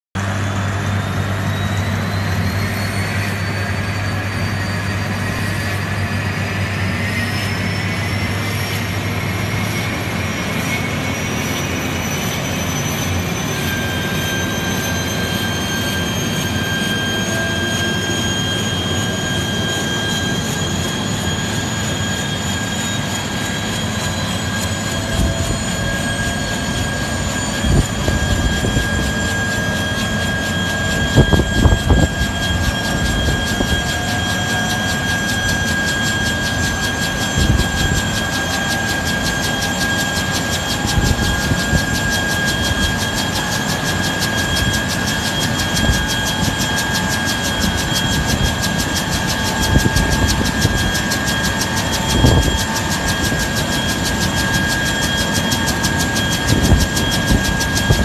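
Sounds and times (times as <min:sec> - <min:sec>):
turbine whine: 0:00.2 - 0:58.0.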